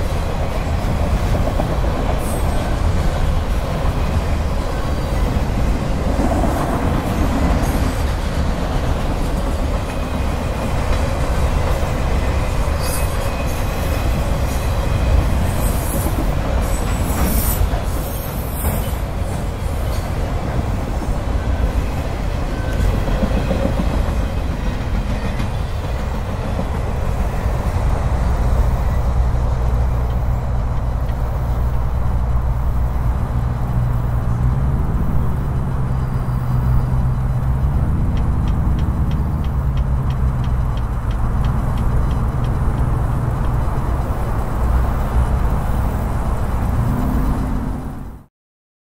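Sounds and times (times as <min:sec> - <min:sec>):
freight train cars rolling past: 0:00.0 - 0:48.3.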